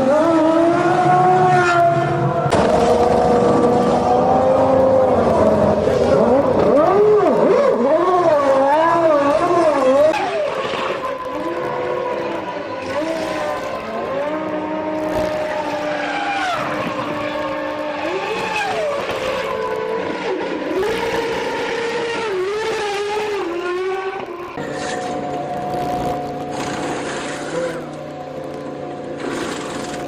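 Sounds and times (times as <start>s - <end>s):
racing car engines revving: 0.0s - 30.0s.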